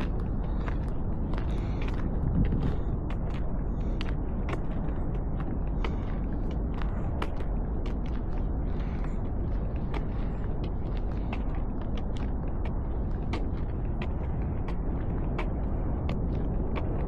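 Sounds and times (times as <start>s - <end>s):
ferry low rumble: 0.0s - 17.0s.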